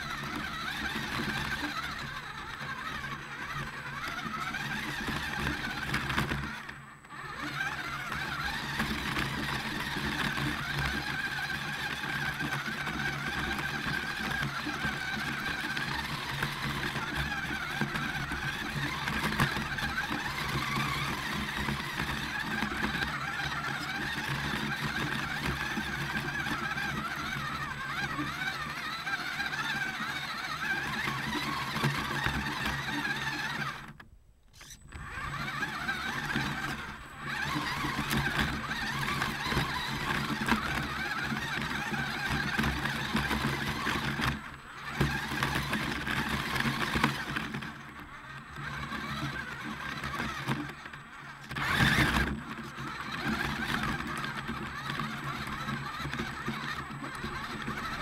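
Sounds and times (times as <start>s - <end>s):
electric motor and drivetrain whining: 0.0s - 58.0s.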